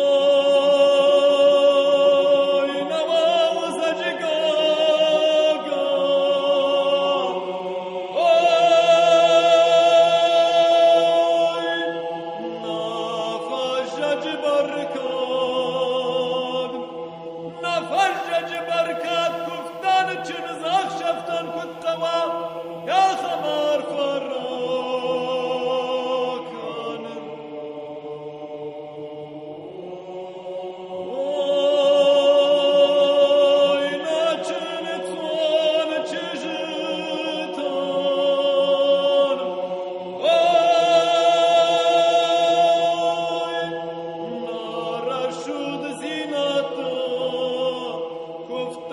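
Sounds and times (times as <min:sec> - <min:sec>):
choral chant: 0:00.0 - 0:48.9.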